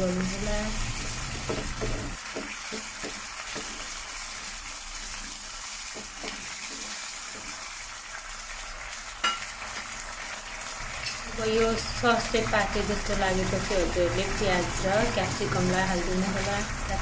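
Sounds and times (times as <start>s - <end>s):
sauce sizzling and bubbling in a pan: 0.0s - 17.0s.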